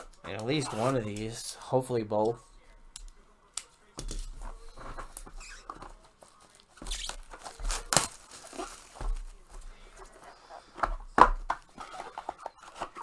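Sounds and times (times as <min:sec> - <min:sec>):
cardboard and plastic tearing: 0:00.0 - 0:01.8, 0:03.0 - 0:13.0
packaging rustling and crinkling: 0:00.0 - 0:01.9, 0:03.0 - 0:13.0.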